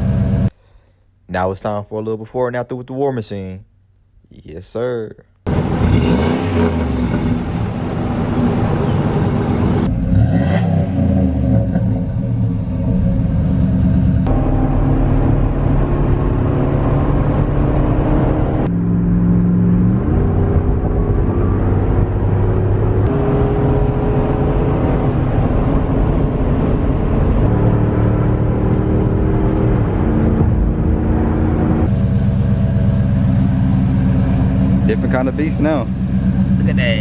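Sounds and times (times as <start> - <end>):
car engine running and revving: 0.0 - 0.5, 5.5 - 37.0.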